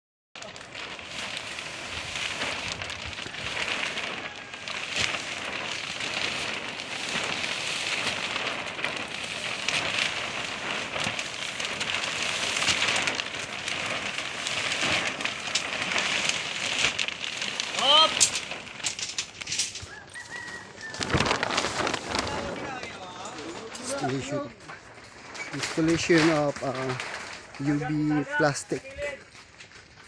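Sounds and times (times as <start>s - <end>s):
plastic film crackling and rustling: 0.4s - 30.0s.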